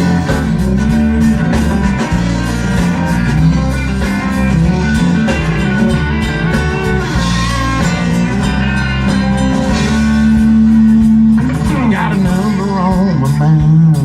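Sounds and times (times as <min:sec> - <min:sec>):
country band playing: 0:00.0 - 0:14.0.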